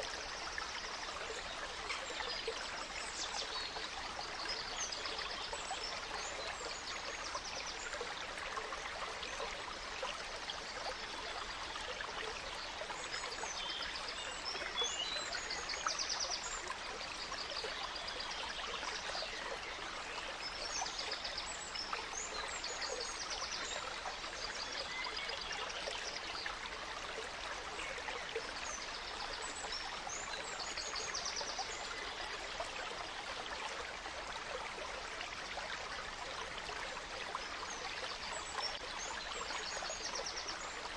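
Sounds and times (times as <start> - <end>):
gentle stream running: 0.0 - 40.9.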